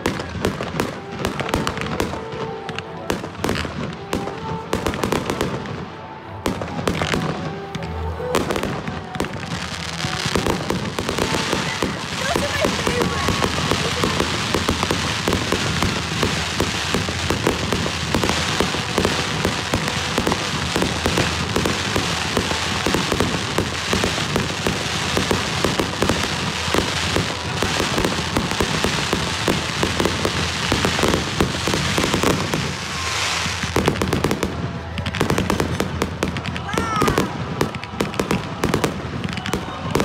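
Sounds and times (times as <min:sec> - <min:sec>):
firework bangs: 0:00.0 - 0:40.0
fireworks crackling and popping: 0:00.0 - 0:40.0.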